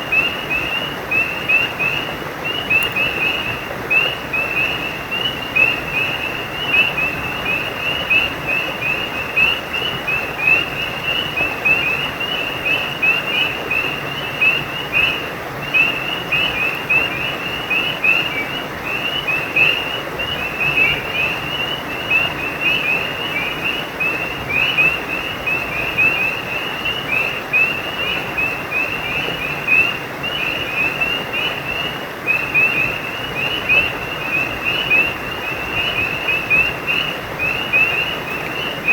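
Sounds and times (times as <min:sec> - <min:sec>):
frogs chirping in chorus: 0:00.0 - 0:38.9
stream rushing: 0:00.0 - 0:38.9.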